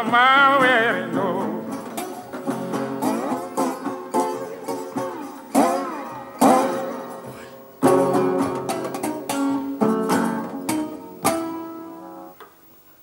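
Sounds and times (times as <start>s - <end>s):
resonator guitar strummed chords: 0.0s - 12.4s.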